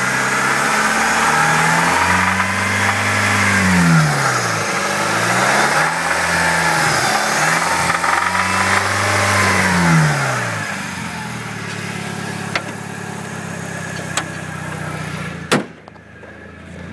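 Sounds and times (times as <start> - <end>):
car engine revving and idling: 0.0 - 16.9.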